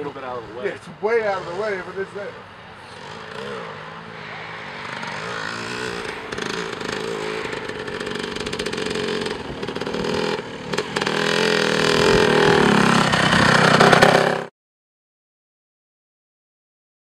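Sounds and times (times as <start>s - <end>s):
dirt bike engine revving: 0.0s - 14.5s.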